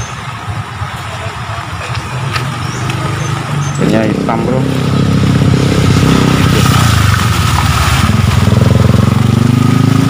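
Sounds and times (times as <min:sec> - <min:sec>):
motorcycle engine running: 0:00.5 - 0:10.0.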